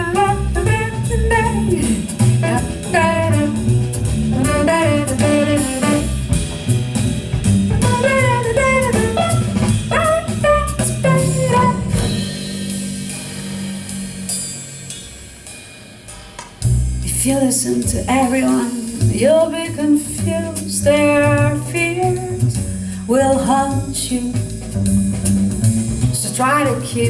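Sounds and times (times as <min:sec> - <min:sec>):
drum-kit beat: 0:00.0 - 0:19.3, 0:23.7 - 0:26.3.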